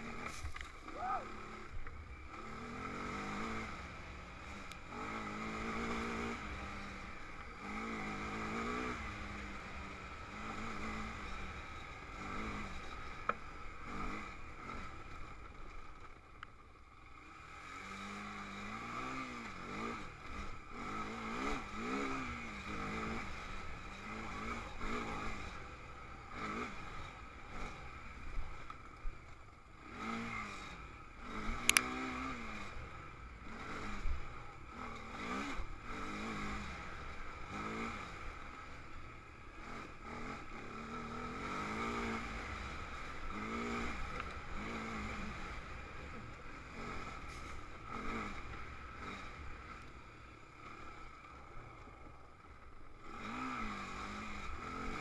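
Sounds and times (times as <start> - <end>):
quad bike engine revving: 0.0 - 15.6, 17.2 - 28.7, 29.8 - 52.3, 53.0 - 55.0.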